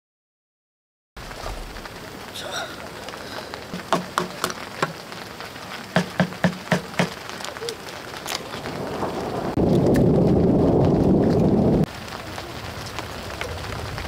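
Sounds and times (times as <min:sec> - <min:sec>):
faint hiss of rain: 0:01.2 - 0:14.0
raindrops tapping on a tent: 0:01.2 - 0:14.0.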